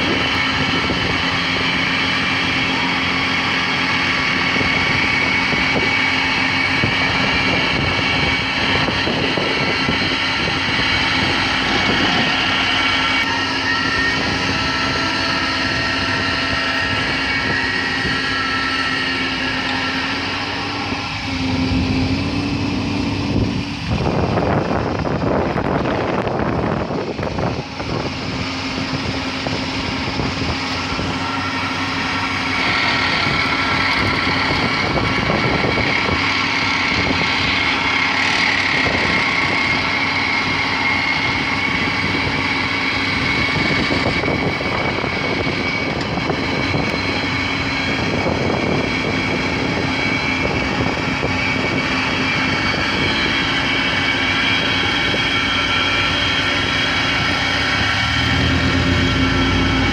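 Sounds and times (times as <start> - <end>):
engine drone: 0.0 - 59.9
excavator hydraulic compactor: 0.0 - 59.9.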